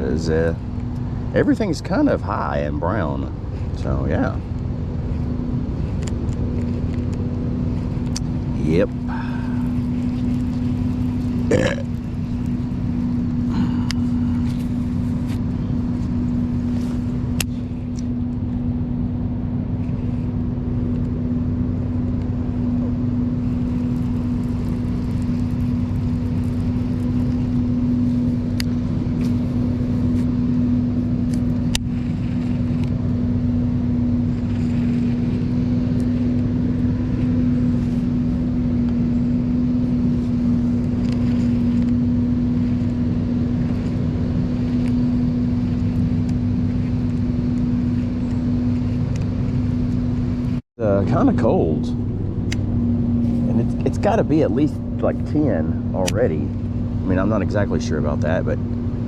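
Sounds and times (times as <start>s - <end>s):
low rumble: 0.0s - 59.0s
steady mechanical hum: 0.0s - 59.0s.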